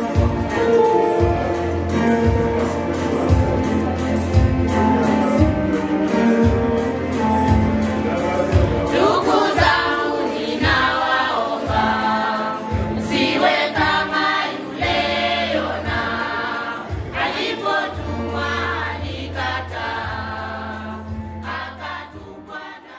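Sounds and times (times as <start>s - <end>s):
choir singing gospel music: 0.0s - 22.9s.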